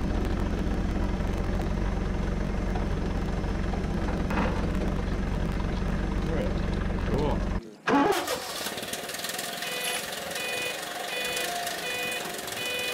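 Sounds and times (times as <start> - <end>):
forklift engine droning: 0.0 - 12.9.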